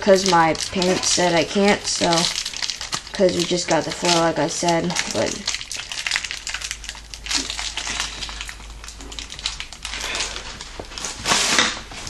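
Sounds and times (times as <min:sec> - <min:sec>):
packaging clicks: 0:00.0 - 0:11.8
packaging crinkling and rustling: 0:00.0 - 0:12.0.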